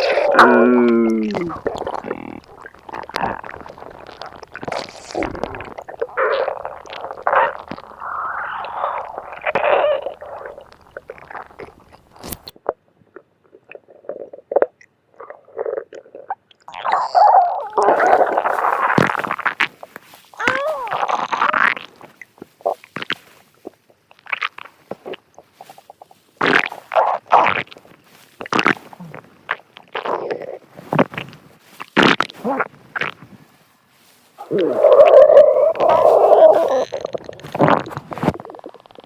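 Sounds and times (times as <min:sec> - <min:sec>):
stomach gurgling and rumbling: 0:00.0 - 0:39.0.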